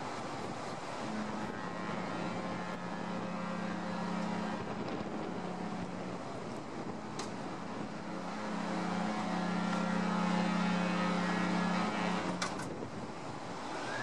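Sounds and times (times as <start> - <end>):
low motor drone: 0.0 - 12.5
moving water: 0.0 - 14.0
wind: 0.0 - 14.0.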